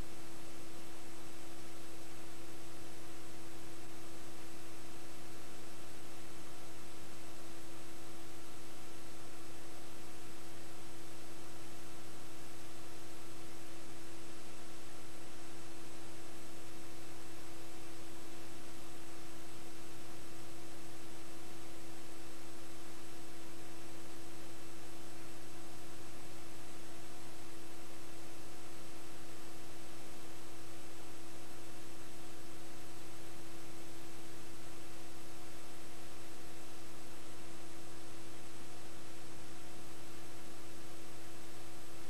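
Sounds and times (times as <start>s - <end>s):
electrical hum: 0.0s - 42.0s
steady hiss: 0.0s - 42.0s.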